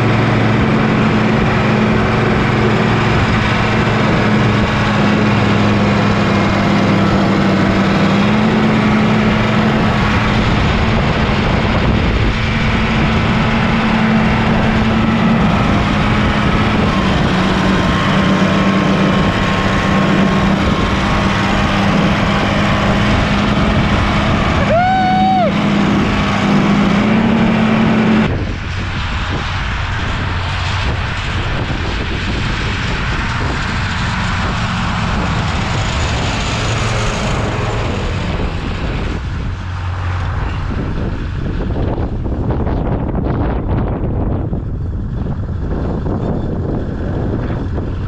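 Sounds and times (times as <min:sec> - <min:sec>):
tractor diesel engine running: 0:00.0 - 0:48.0
wind on microphone: 0:00.0 - 0:48.0.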